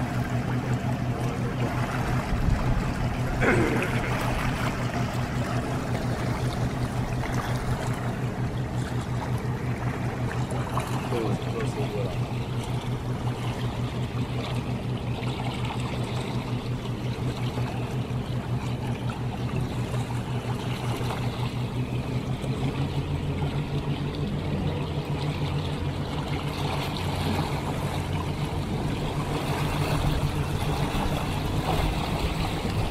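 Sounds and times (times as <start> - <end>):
motorboat engine running: 0.0 - 32.9
water rushing along hull: 0.0 - 32.9.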